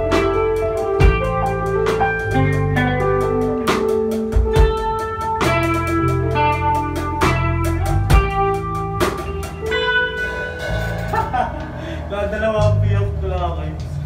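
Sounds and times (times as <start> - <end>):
drum kit: 0.0 - 14.0
electric bass: 0.0 - 14.0
held chords: 0.0 - 14.0.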